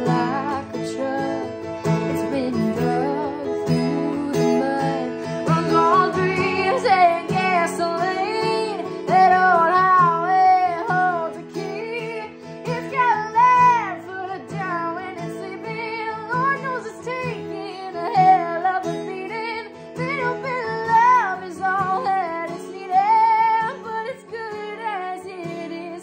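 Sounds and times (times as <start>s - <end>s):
acoustic guitar strumming: 0.0s - 26.0s
woman singing: 0.0s - 26.0s.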